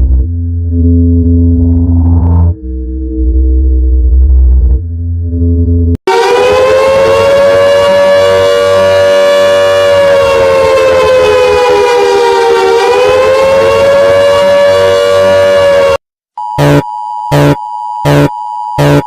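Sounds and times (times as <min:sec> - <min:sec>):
warning siren steady tone: 0:00.0 - 0:16.0, 0:16.6 - 0:19.0.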